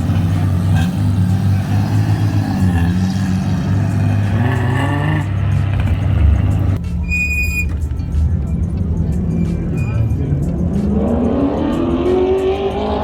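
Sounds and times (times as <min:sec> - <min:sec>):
car engine revving: 0:00.0 - 0:06.8, 0:08.7 - 0:13.0.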